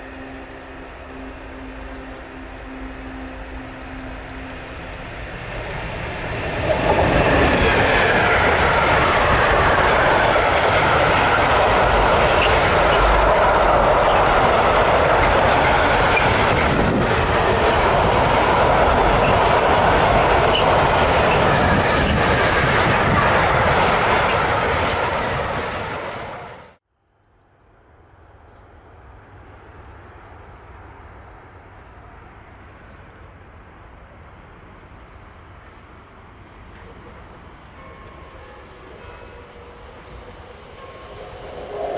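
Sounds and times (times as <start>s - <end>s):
train passing: 0.0s - 26.8s, 28.1s - 41.9s.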